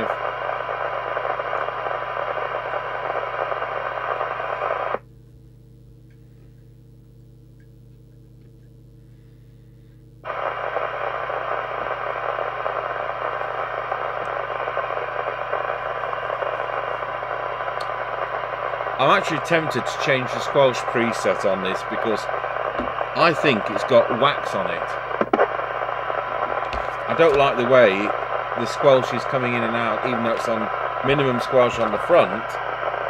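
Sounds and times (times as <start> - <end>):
radio speaker hissing: 0.0 - 5.0, 10.2 - 33.0
faint hum: 0.0 - 33.0.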